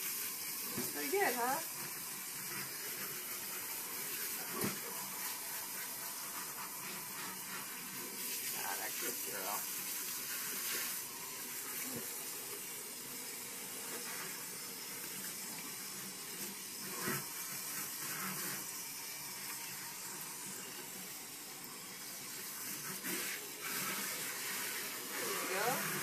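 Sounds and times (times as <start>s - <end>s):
water spraying into a sink: 0.0s - 26.0s.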